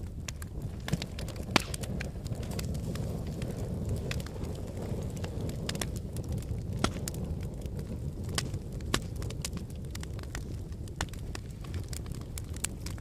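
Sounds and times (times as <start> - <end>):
fire burning in a fireplace: 0.0 - 13.0
fire crackling and popping: 0.0 - 13.0.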